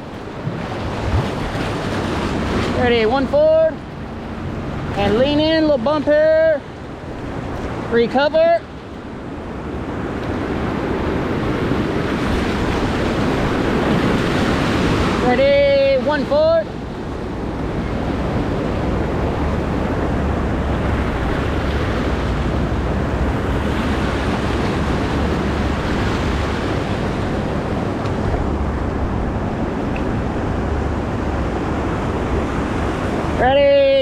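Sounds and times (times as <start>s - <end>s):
rapids rushing: 0.0s - 34.0s
wind rumbling on microphone: 0.0s - 34.0s.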